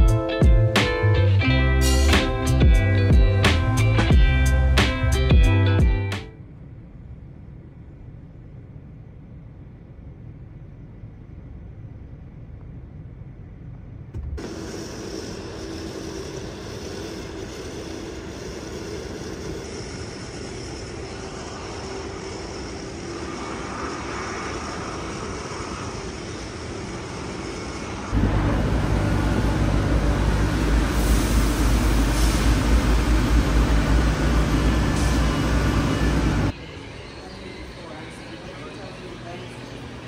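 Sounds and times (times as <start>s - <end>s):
deep drone with low hum: 0.0s - 40.0s
vehicle travel noise: 0.0s - 40.0s.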